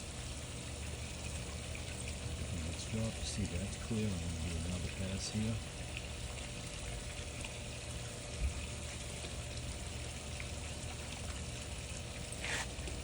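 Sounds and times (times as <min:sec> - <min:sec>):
pool vacuum running underwater: 0:00.0 - 0:13.0.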